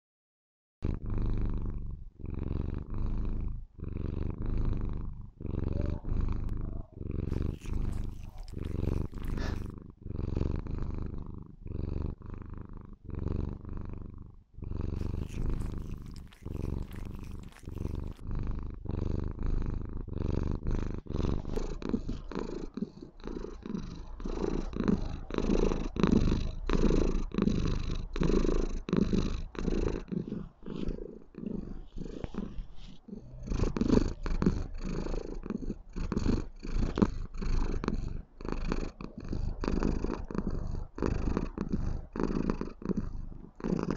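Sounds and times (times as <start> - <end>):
kitten purring loudly: 0.8 - 43.9.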